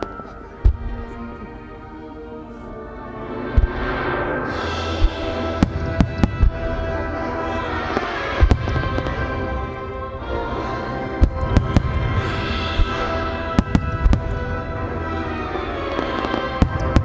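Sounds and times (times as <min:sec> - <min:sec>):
fireworks bursting with bangs: 0:00.0 - 0:01.2, 0:03.5 - 0:17.0
music: 0:00.0 - 0:17.0.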